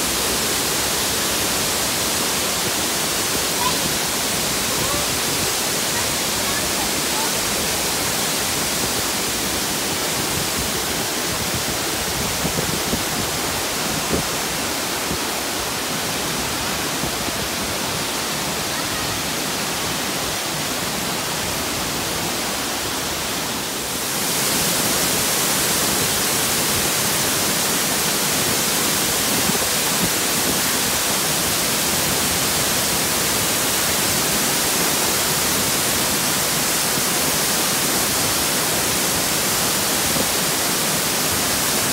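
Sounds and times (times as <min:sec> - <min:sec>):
water rushing down stream: 0:00.0 - 0:41.9.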